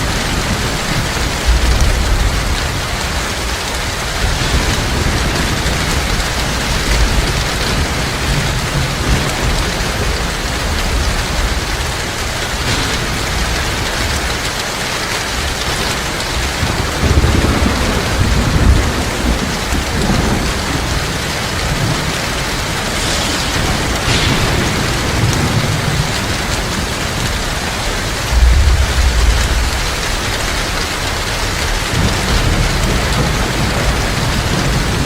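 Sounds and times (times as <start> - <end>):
heavy rain falling: 0.0 - 35.0
thunder rumbling low: 0.0 - 35.0.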